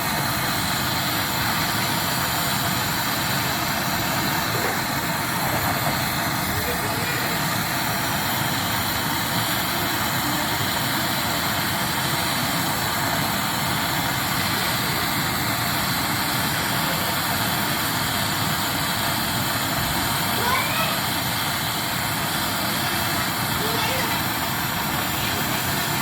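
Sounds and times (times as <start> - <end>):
machine running with hiss: 0.0 - 26.0.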